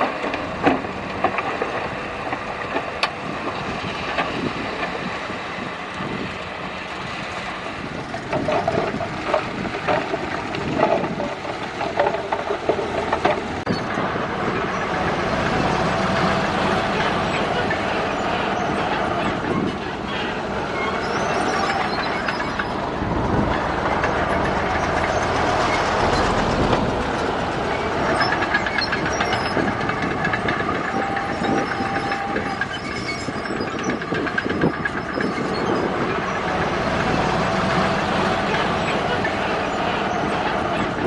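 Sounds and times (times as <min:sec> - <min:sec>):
bulldozer diesel engine clatter: 0:00.0 - 0:41.0
crawler tracks squealing: 0:00.0 - 0:41.0.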